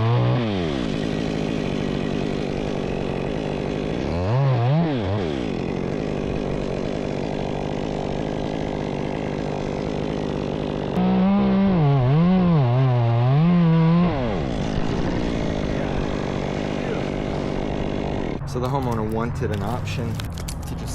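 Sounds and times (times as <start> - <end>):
chainsaw idling and revving: 0.0 - 20.9.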